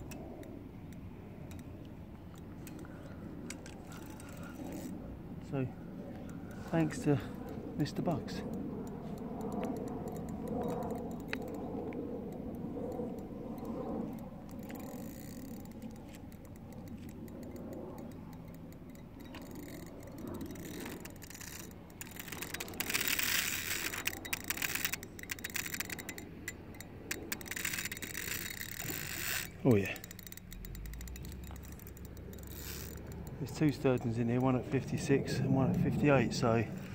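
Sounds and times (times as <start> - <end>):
fishing reel clicking: 0.0 - 5.1, 6.1 - 36.9.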